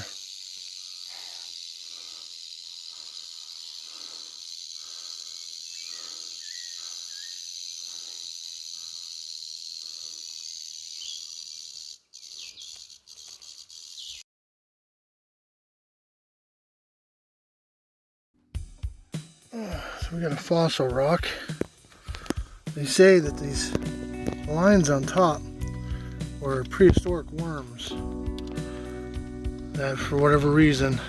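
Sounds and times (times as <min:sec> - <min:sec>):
rattlesnake rattling: 0:00.0 - 0:14.2, 0:19.1 - 0:31.0.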